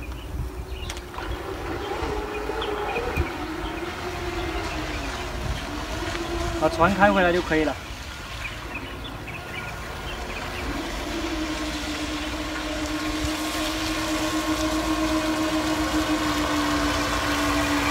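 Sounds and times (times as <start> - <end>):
small boat motor whine: 0.0 - 17.9.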